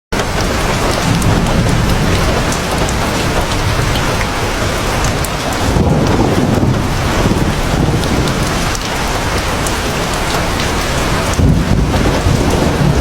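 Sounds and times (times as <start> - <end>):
heavy rain falling: 0.1 - 13.0
sharp raindrop ticks: 0.2 - 13.0
low rumble: 1.0 - 13.0.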